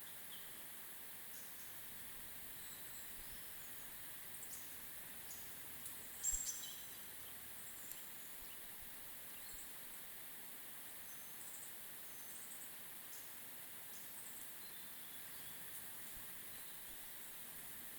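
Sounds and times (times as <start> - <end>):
faint steady hiss: 0.0 - 17.9
small birds chirping: 1.3 - 10.1, 10.9 - 17.9.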